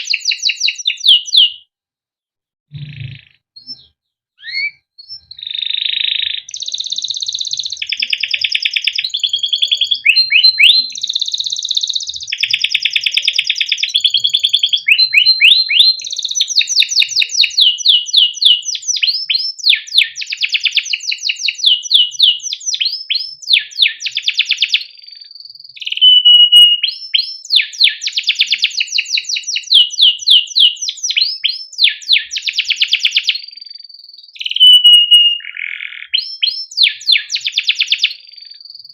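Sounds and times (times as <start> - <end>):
canary singing: 0.0 - 1.7, 2.7 - 38.9.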